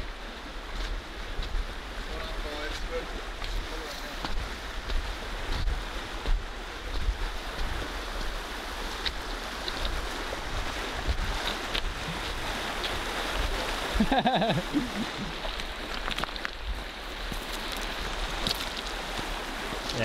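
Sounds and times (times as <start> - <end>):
river rushing over stones: 0.0 - 20.0
wind rumbling on microphone: 0.0 - 20.0.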